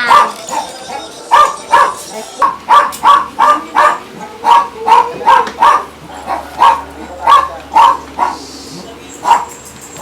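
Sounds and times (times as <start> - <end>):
dog barking sharply: 0.0 - 0.7, 1.3 - 8.4, 9.2 - 9.6.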